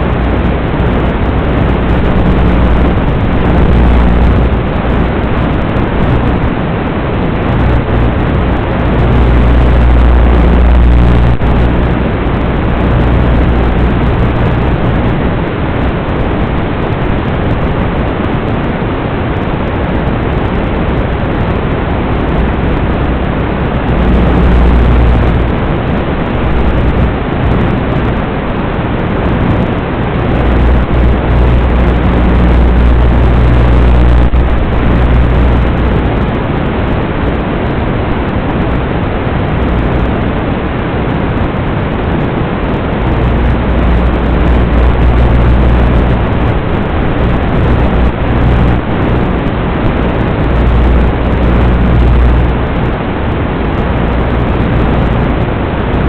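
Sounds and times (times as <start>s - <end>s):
low rumbles: 0.0s - 56.0s
wind rushing over microphone: 0.0s - 56.0s.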